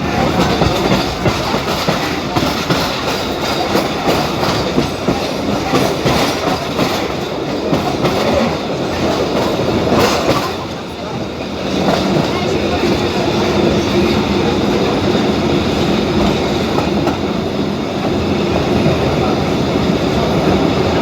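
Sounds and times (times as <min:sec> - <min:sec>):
wheels and carriage rattling: 0:00.0 - 0:17.6
passenger train rumbling: 0:00.0 - 0:21.0.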